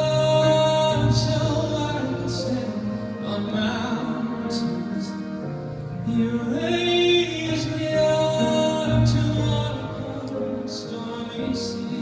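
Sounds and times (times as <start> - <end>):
grand piano: 0.0 - 12.0
man singing into microphone: 0.0 - 12.0
string ensemble: 0.0 - 12.0.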